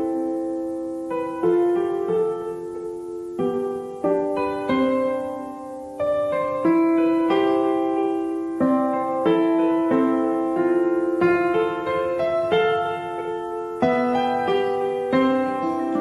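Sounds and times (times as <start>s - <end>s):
slow piano tune: 0.0s - 16.0s.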